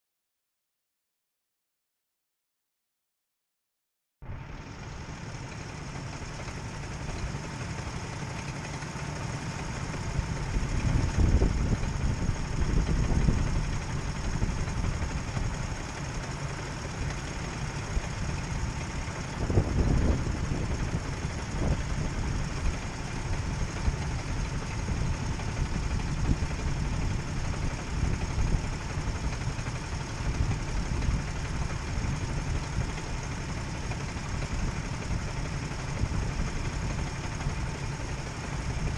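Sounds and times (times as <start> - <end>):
kart engines idling: 4.3 - 38.9.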